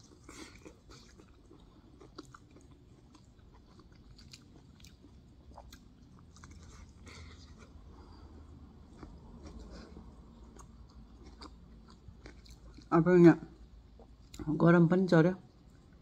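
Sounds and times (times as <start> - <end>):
person chewing with wet smacks: 0.0 - 12.9, 13.6 - 14.5.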